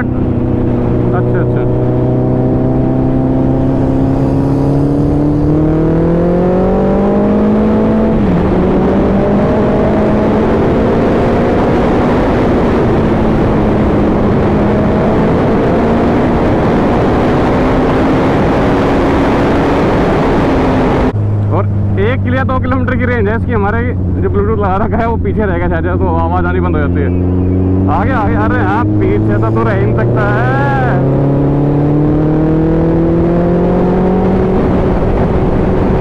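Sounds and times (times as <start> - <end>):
wind rushing: 0.0 - 22.0, 22.7 - 36.0
motorcycle engine accelerating: 0.0 - 36.0.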